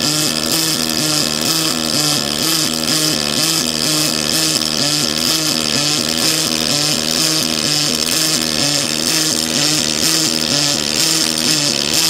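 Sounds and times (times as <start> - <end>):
pulsing welding arc buzz: 0.0 - 12.0.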